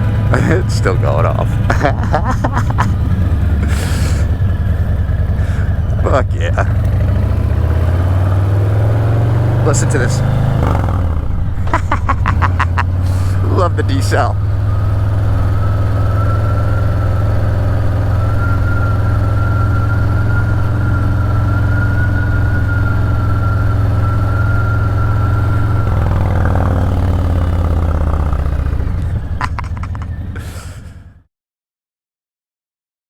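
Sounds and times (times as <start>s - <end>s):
motorcycle engine idling: 0.0s - 31.2s.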